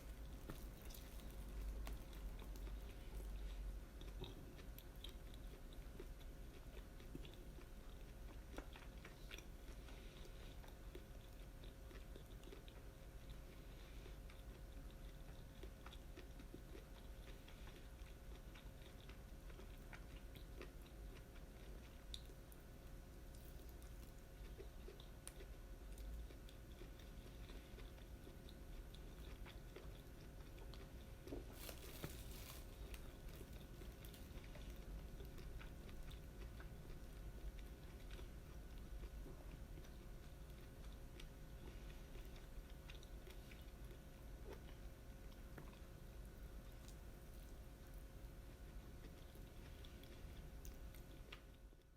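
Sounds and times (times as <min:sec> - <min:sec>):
close-up chewing: 0:00.0 - 0:51.9.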